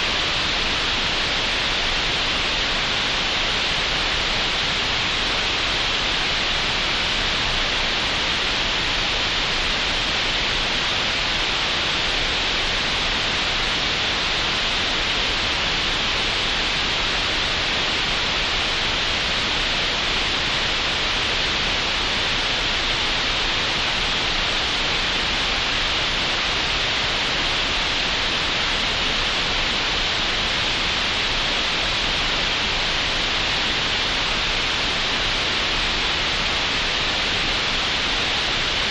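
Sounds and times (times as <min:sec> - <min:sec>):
steady synthetic hiss: 0:00.0 - 0:38.9.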